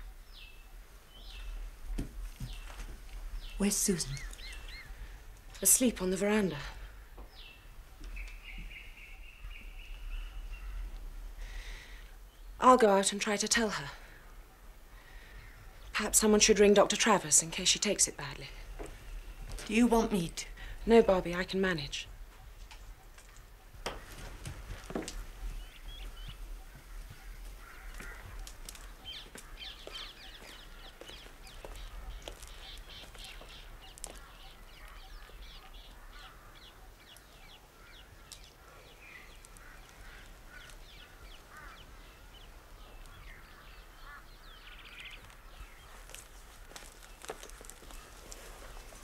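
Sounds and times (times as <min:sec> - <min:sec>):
birds chirping and calling: 0:00.0 - 0:12.6, 0:14.3 - 0:49.0.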